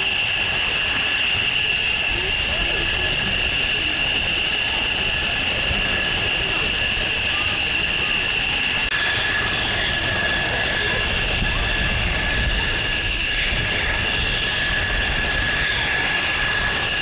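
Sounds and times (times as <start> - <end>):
jet engine whining: 0.0 - 17.0.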